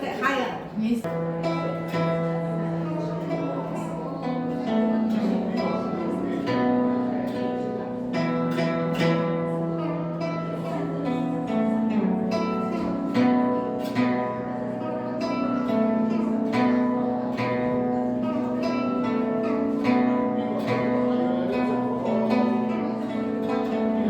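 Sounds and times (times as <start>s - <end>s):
zither plucked melody: 1.0s - 24.0s.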